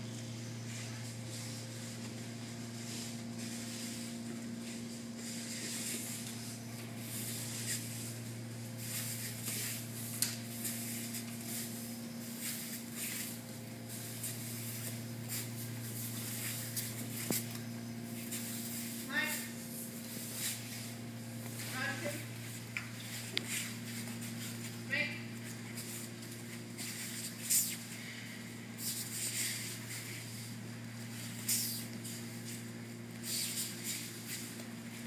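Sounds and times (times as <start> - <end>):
steady low hum: 0.0 - 35.0
bare feet shuffling on mats: 0.6 - 35.0.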